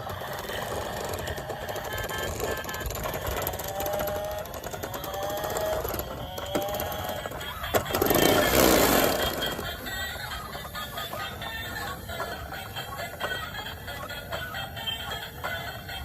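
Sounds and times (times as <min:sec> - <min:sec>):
small electric motor whirring: 0:00.0 - 0:15.3.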